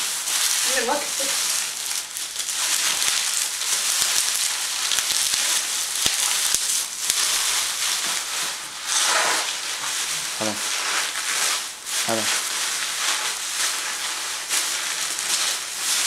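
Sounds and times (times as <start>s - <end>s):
bubble wrap clicks: 0.0s - 8.6s, 10.4s - 16.0s
bubble wrap crinkling: 0.0s - 16.0s.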